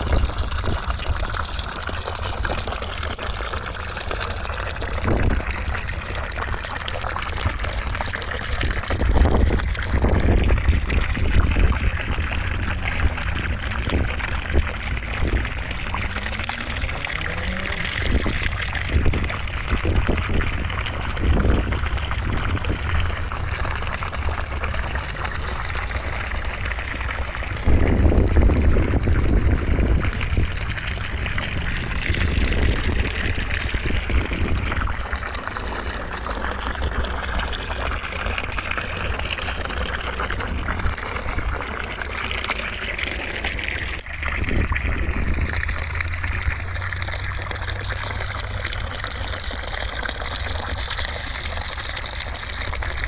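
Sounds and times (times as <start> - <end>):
running water gushing: 0.0 - 53.0.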